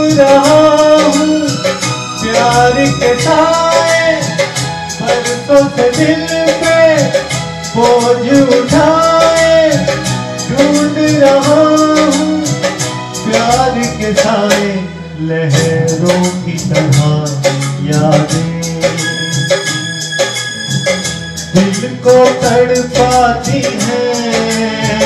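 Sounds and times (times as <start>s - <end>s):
man singing into microphone: 0.0s - 20.2s, 21.4s - 25.0s
instrumental backing with steady beat: 0.0s - 25.0s.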